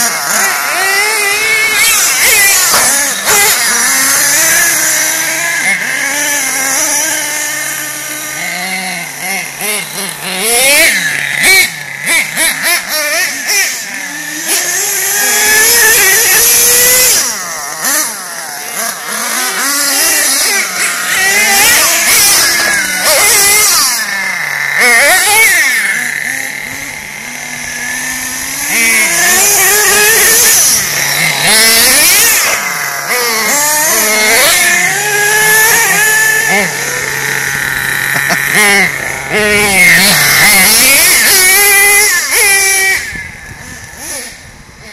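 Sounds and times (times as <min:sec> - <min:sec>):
small nitro engines revving: 0:00.0 - 0:44.9.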